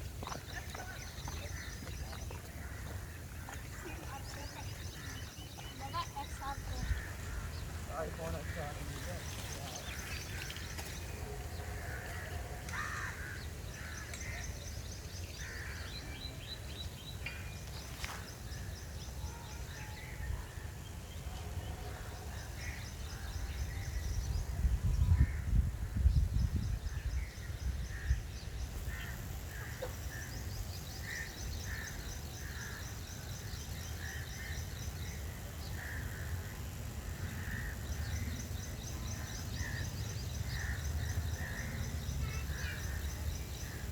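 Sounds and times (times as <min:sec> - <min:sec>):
birds calling and trilling: 0:00.0 - 0:43.9.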